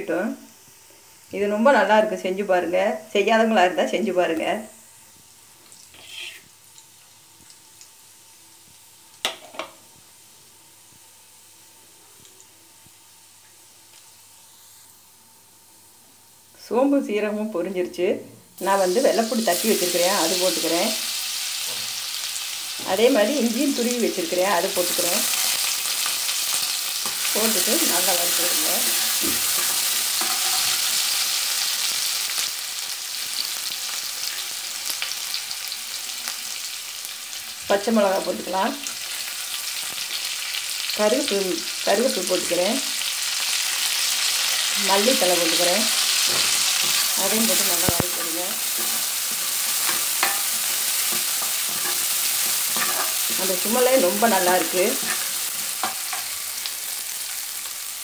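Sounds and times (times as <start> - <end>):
seeds sizzling in hot oil: 0.0 - 58.0.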